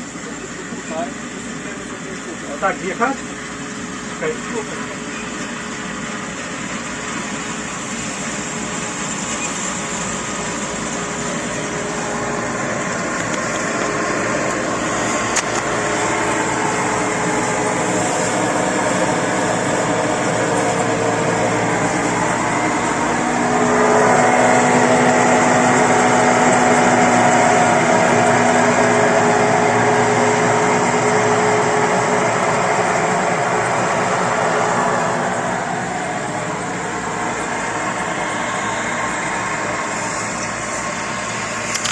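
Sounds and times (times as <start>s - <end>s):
combine harvester engine: 0.0s - 41.9s.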